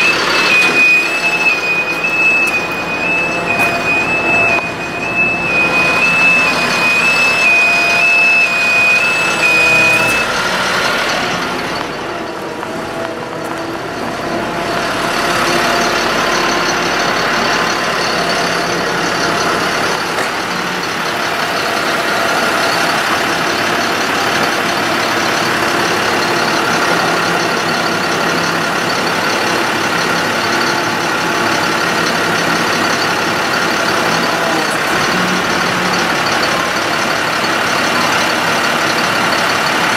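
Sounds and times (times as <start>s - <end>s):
two-pitch electronic warning beeper: 0.0s - 29.6s, 30.2s - 38.3s
hydraulic pump noise: 0.0s - 39.9s
truck engine running: 0.0s - 39.9s.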